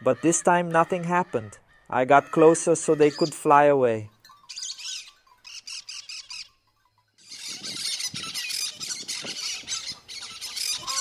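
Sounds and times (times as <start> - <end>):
parakeets chattering and screeching: 0.1 - 3.6, 4.2 - 11.0.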